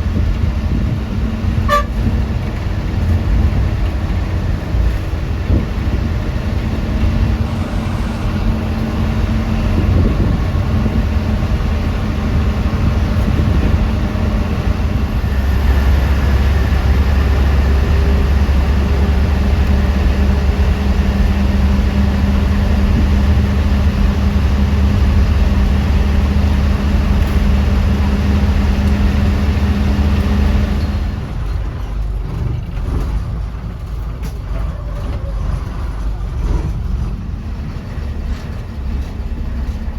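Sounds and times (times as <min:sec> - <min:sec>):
bus engine humming: 0:00.0 - 0:39.9.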